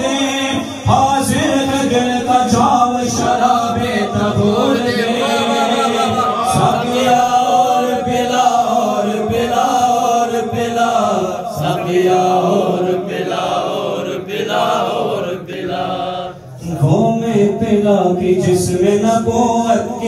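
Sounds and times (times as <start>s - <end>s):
man chanting into a microphone: 0.0s - 20.0s.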